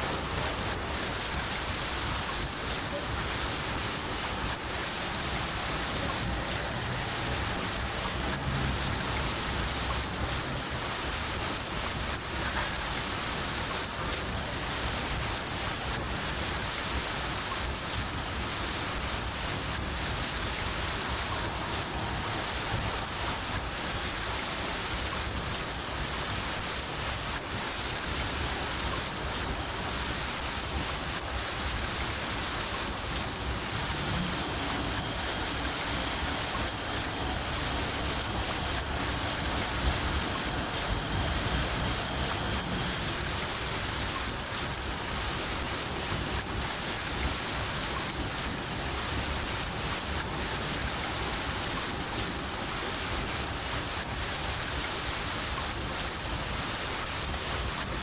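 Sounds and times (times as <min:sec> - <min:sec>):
crickets chirping: 0:00.0 - 0:58.0
steady rain: 0:00.0 - 0:58.0.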